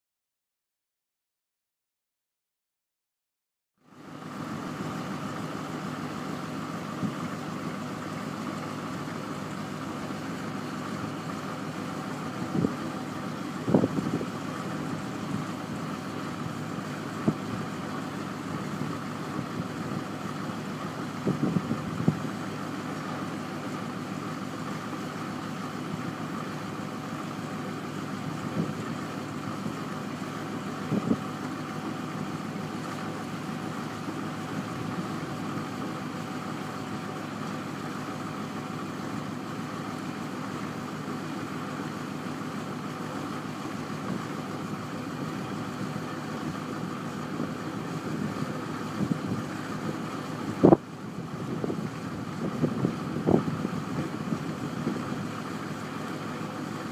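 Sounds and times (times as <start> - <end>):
diesel truck engine running: 3.8 - 56.9.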